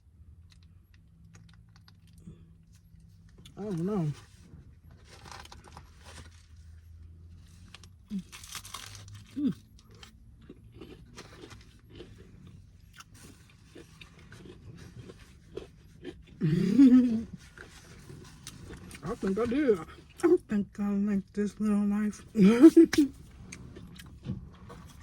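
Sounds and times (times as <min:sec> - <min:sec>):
chewing crunchy fried food: 0:00.0 - 0:20.2, 0:23.0 - 0:25.0.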